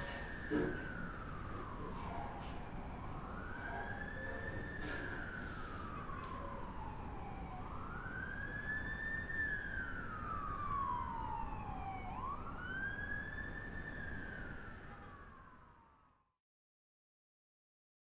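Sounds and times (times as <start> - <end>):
low steady background noise: 0.0 - 16.1
emergency siren wailing: 0.0 - 16.3.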